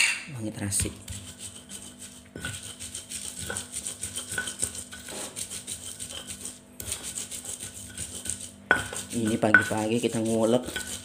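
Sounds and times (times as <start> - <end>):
stone pestle grinding in mortar: 0.7 - 11.0.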